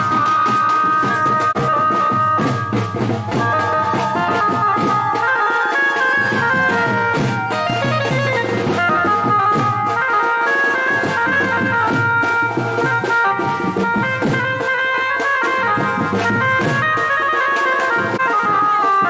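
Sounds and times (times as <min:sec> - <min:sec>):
drums beating steady rhythm: 0:00.0 - 0:19.0
reedy wind instrument melody: 0:00.0 - 0:19.0.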